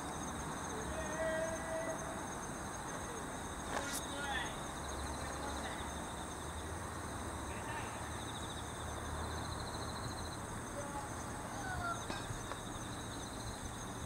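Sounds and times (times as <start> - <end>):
background hiss: 0.0 - 14.0
insects trilling: 0.0 - 14.0.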